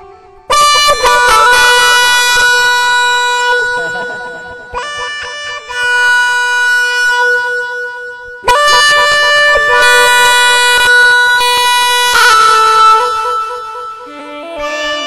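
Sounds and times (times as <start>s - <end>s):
reedy wind instrument long notes: 0.0s - 15.0s.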